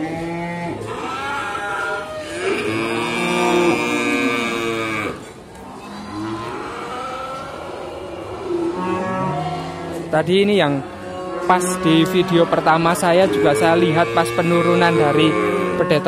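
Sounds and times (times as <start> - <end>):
cattle mooing: 0.0 - 16.0.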